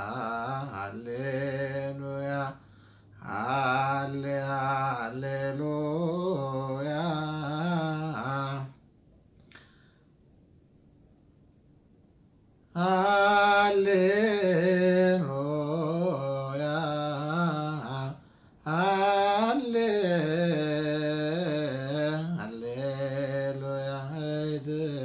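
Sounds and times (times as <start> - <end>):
man singing a hymn unaccompanied: 0.0 - 8.8, 12.7 - 25.0.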